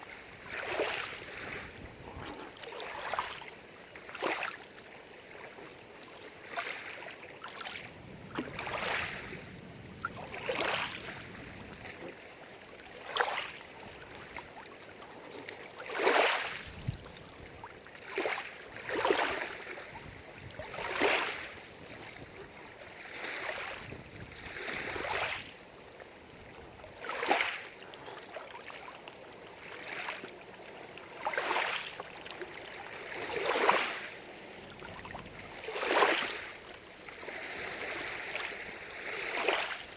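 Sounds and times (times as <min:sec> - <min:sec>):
small waves lapping at shore: 0:00.0 - 0:39.9.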